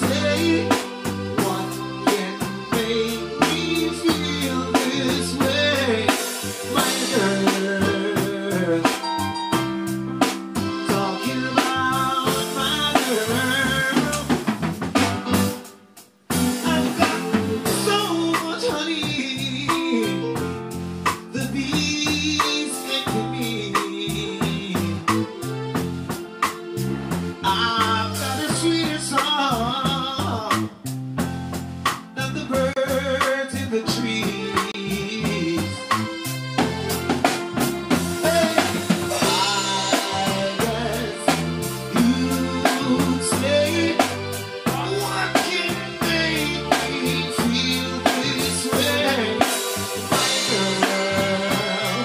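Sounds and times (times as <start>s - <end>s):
person singing: 0.0s - 14.7s, 16.4s - 30.8s, 32.2s - 52.0s
drum kit beat: 0.0s - 52.0s
electric bass guitar: 0.0s - 52.0s
keyboard: 0.0s - 52.0s.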